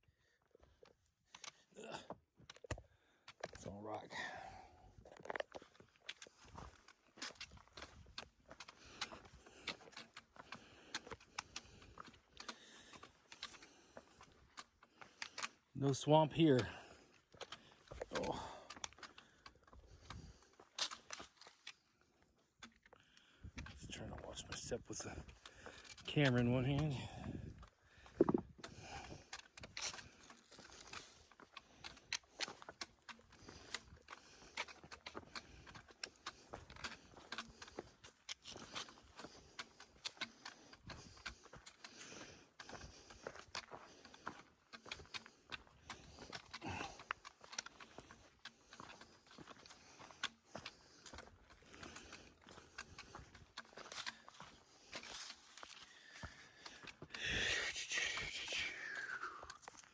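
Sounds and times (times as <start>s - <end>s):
footsteps on loose stones: 4.8s - 59.9s.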